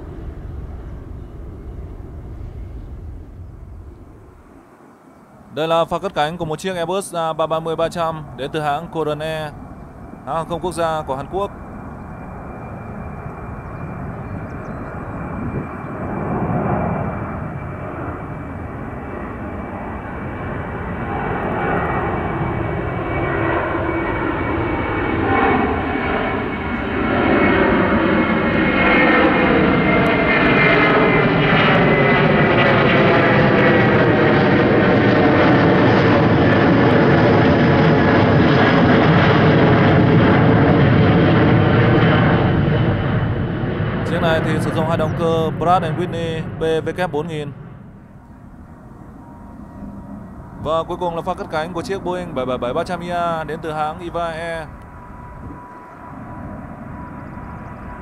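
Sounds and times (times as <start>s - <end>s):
jet engines roaring overhead: 0.0s - 58.0s.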